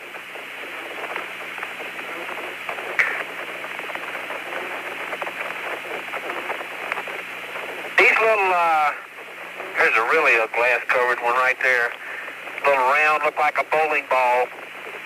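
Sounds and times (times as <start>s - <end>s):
low hum: 0.0s - 15.0s
radio static hiss with crackles: 0.0s - 15.0s.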